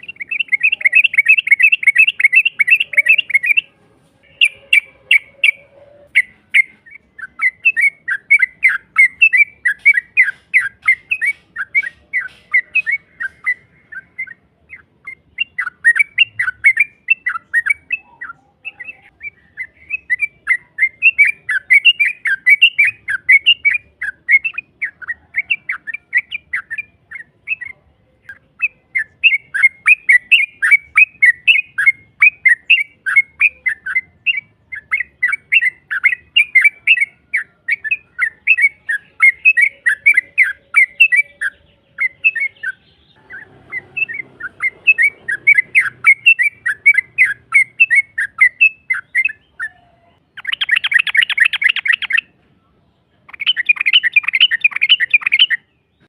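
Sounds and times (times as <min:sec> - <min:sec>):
bird singing chattering notes: 0:00.0 - 0:52.4, 0:53.2 - 0:56.0.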